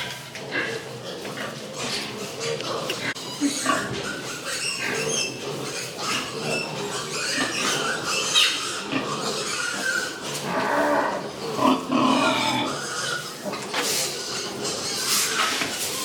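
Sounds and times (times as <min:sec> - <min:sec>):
pigs grunting and squealing: 0:00.0 - 0:16.0.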